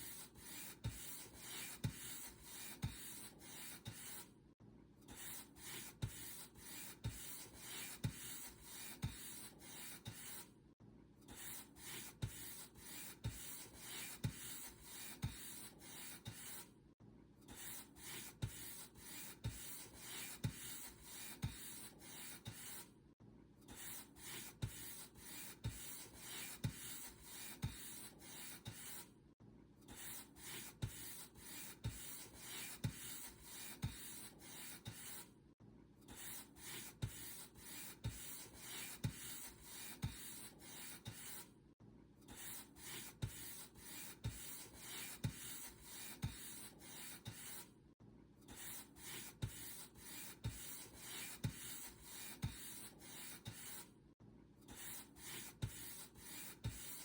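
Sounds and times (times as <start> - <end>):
paint brush strokes: 0.0 - 4.3, 5.2 - 10.5, 11.4 - 16.7, 17.5 - 22.9, 23.7 - 29.1, 29.9 - 35.3, 36.1 - 41.5, 42.3 - 47.7, 48.5 - 53.9, 54.7 - 57.0.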